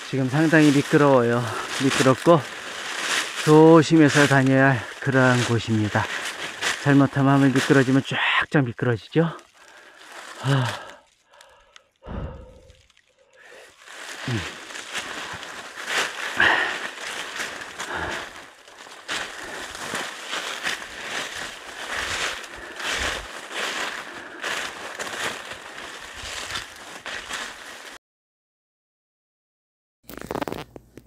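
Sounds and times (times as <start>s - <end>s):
footsteps crunching through dry leaves: 0.0s - 28.0s.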